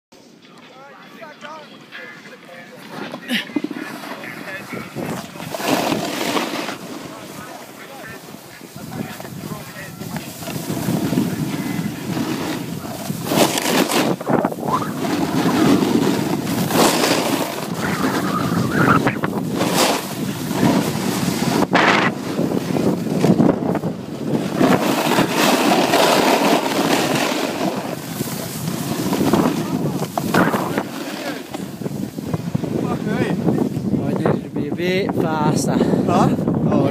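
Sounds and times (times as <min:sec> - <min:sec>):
wind buffeting microphone: 0:03.7 - 0:06.2, 0:06.8 - 0:36.9.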